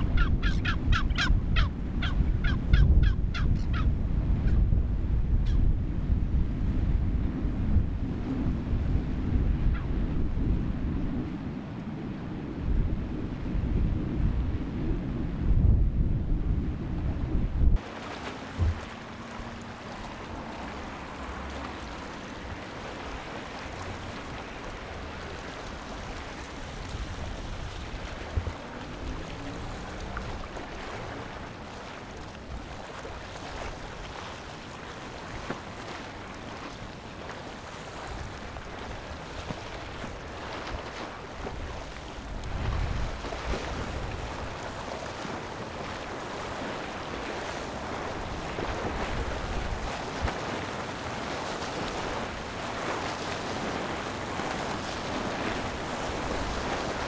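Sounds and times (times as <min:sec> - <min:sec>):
wind buffeting microphone: 0:00.0 - 0:17.9, 0:18.5 - 0:37.0, 0:37.7 - 0:57.0.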